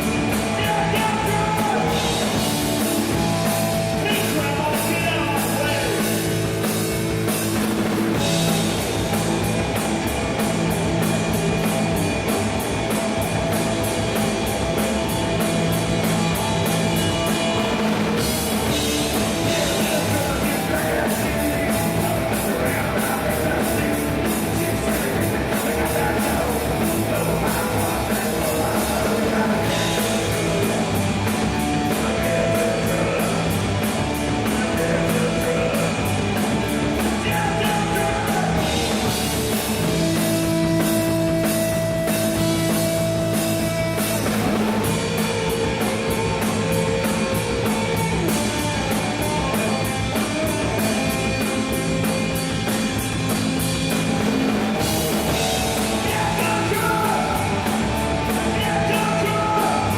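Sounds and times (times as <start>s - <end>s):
fast high drum beat: 0.0s - 59.9s
punk rock band playing live: 0.0s - 59.9s.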